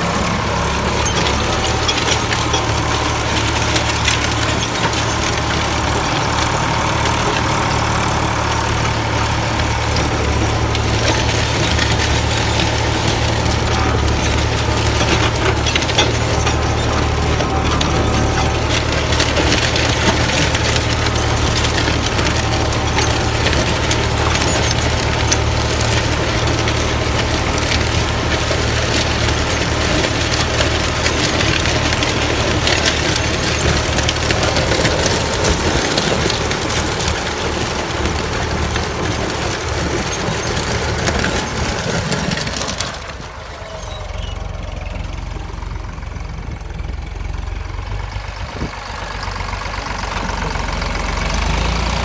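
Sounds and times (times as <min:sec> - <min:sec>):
plough discs crunching soil and stones: 0:00.0 - 0:52.0
tractor engine hum: 0:00.0 - 0:52.0.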